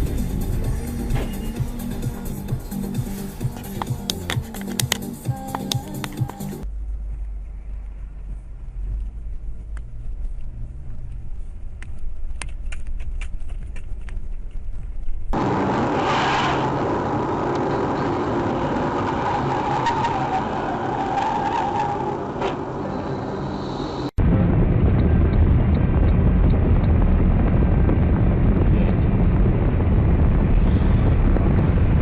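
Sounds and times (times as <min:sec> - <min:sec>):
low road rumble: 0:00.0 - 0:32.0
road and engine noise: 0:00.0 - 0:32.0.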